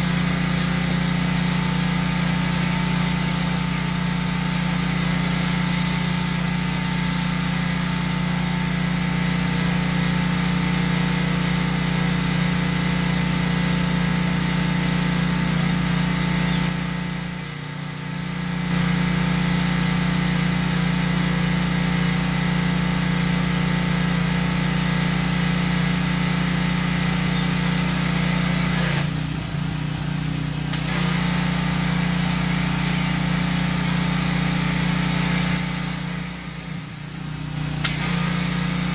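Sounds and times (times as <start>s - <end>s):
electric blower running: 0.0s - 38.9s.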